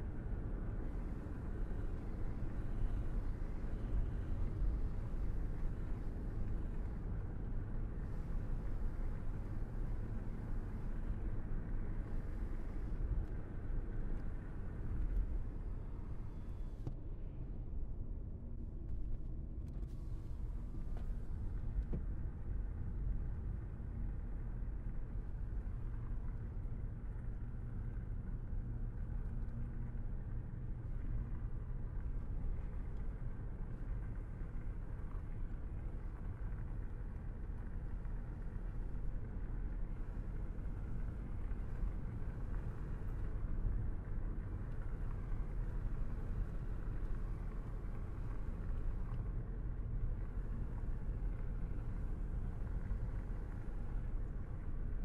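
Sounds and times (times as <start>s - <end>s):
tyre road noise: 0.0s - 17.0s, 18.8s - 55.0s
car engine rumble: 0.0s - 55.0s.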